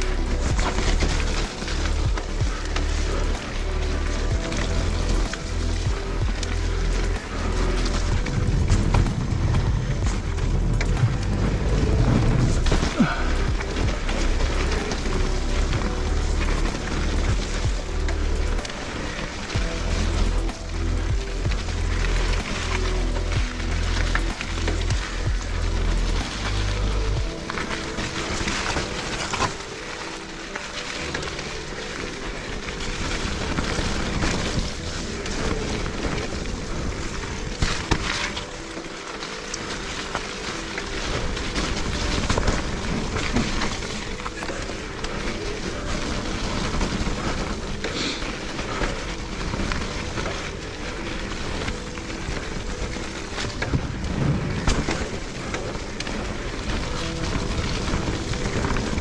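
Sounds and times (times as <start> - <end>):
bike rattles and knocks: 0.0 - 59.0
bike tyre noise: 0.0 - 59.0.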